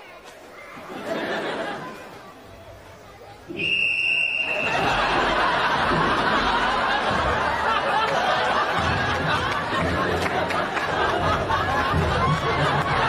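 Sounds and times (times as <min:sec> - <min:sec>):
crowd laughing and chattering: 0:00.0 - 0:13.0.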